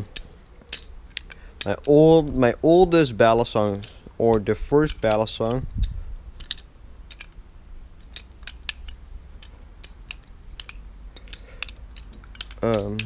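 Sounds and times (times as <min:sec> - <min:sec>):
balisong handles clicking: 0:00.0 - 0:13.0.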